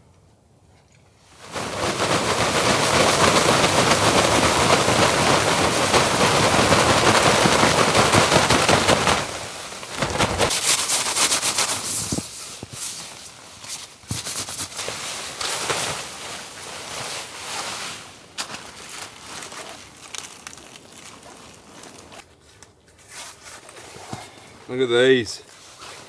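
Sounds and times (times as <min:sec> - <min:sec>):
tarp crackling when shaken: 0:01.3 - 0:22.2, 0:24.7 - 0:26.0.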